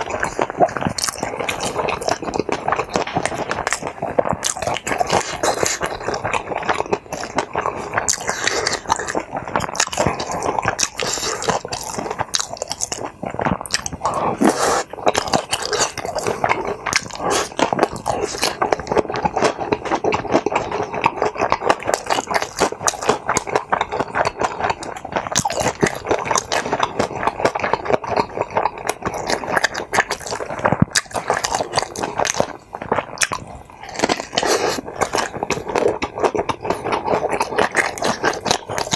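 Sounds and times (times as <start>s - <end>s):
chewing food: 0.0s - 38.9s.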